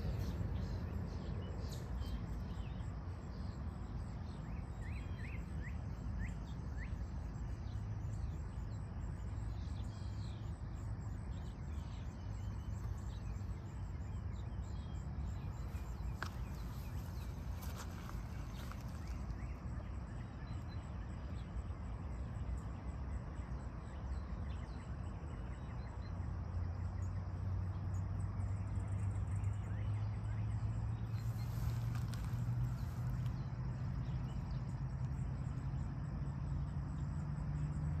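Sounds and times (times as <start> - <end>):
faint insect chirps: 0.0 - 38.0
low rumbling background: 0.0 - 38.0
low steady hum: 0.0 - 38.0.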